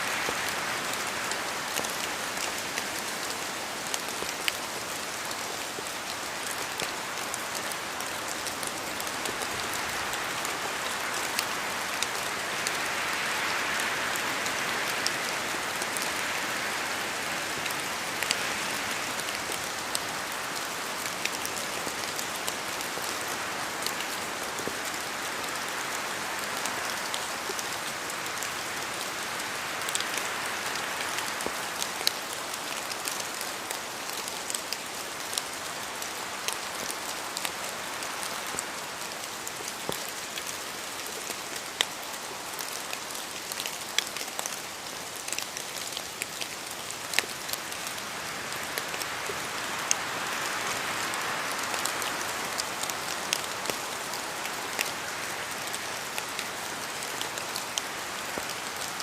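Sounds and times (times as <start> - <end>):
raindrops ticking on surfaces: 0.0 - 59.0
steady rain hiss: 0.0 - 59.0.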